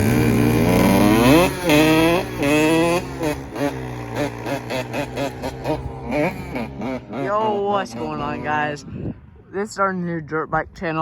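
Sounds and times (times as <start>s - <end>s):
dirt bike engine revving: 0.0s - 8.9s.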